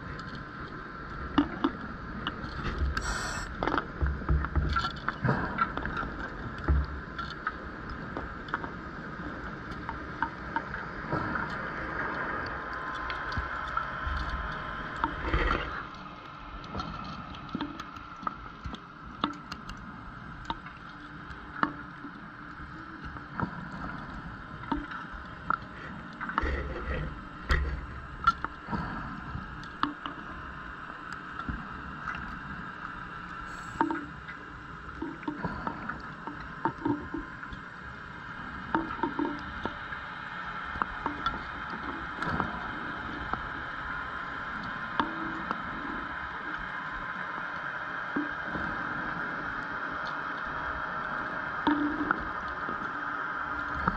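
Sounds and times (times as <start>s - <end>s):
high-pitched underwater hum: 0.0s - 53.9s.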